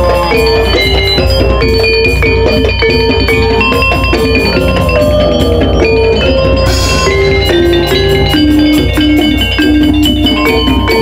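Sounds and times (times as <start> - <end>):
metallophones struck with mallets: 0.0 - 11.0.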